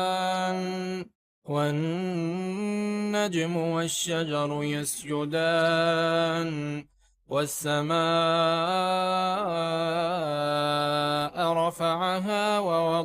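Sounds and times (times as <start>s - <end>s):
man chanting: 0.0s - 13.0s.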